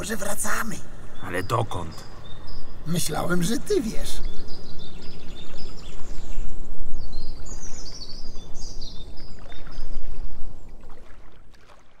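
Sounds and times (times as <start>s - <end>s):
birds chirping and warbling: 0.0s - 11.0s.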